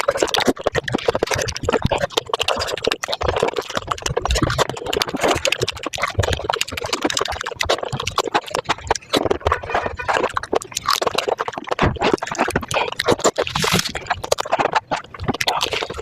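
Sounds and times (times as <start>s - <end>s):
slurping: 0.0s - 16.0s.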